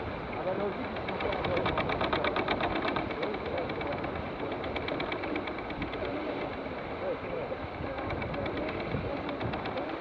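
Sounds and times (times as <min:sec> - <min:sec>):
water rushing past boat: 0:00.0 - 0:10.0.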